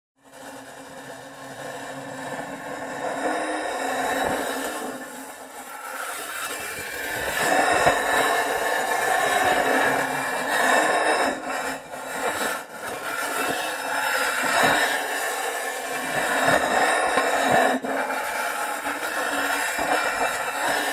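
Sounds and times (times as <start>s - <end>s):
sheet metal scraping across surface: 0.4s - 20.9s.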